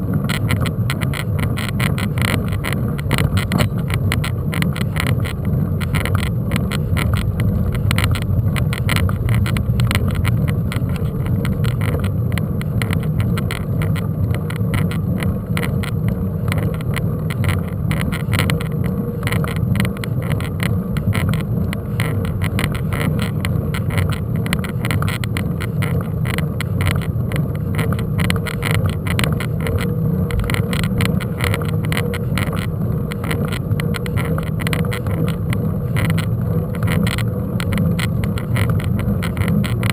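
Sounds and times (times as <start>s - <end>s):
bike rattling ticks: 0.0s - 39.9s
wind rumble on microphone: 0.0s - 39.9s.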